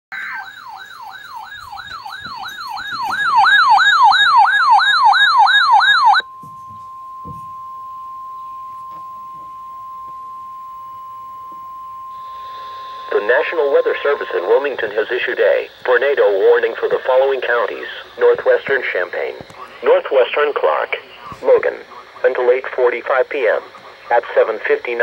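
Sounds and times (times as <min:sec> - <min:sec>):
steady warning alarm tone: 0:00.1 - 0:25.0
warbling siren alarm: 0:00.1 - 0:25.0.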